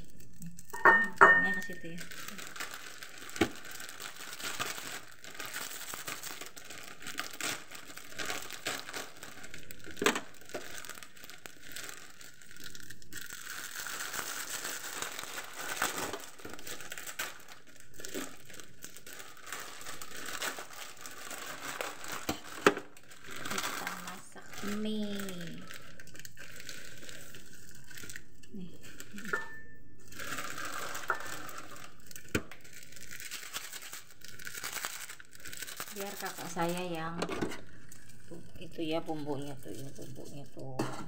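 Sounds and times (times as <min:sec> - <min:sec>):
plastic sachets crinkling: 0:00.0 - 0:41.0.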